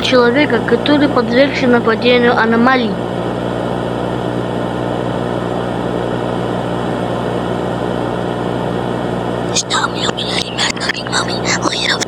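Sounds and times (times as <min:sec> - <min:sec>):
droning hum with hiss: 0:00.0 - 0:12.0.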